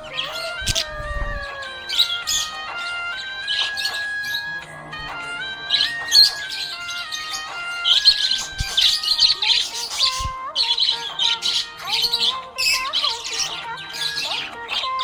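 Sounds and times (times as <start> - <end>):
budgerigars chirping and chattering: 0.0 - 15.0
instrumental melody: 0.0 - 15.0.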